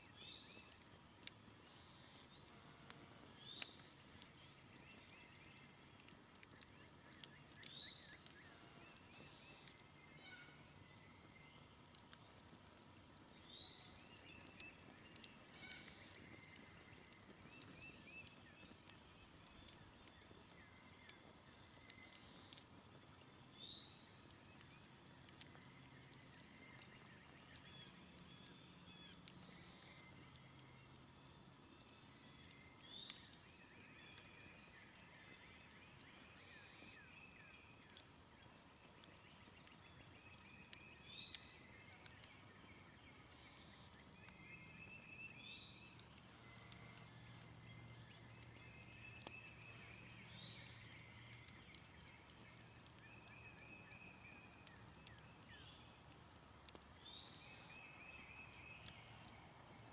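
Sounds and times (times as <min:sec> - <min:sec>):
campfire crackling and popping: 0:00.0 - 0:59.9
birds calling and trilling: 0:03.3 - 0:22.6, 0:23.4 - 0:55.9, 0:56.6 - 0:59.3.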